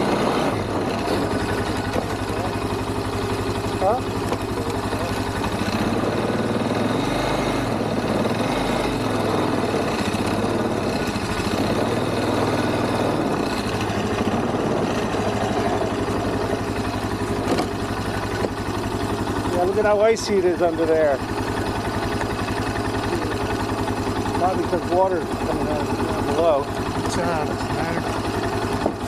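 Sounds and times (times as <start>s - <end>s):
quad engine running: 0.0s - 29.0s.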